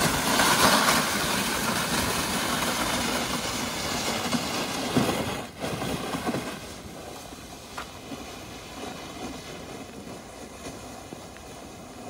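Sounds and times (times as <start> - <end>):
sled scraping over ice: 0.0 - 12.0.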